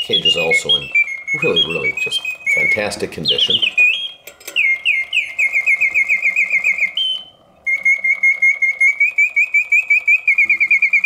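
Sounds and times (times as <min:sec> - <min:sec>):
mechanical birdsong whistling: 0:00.0 - 0:11.0.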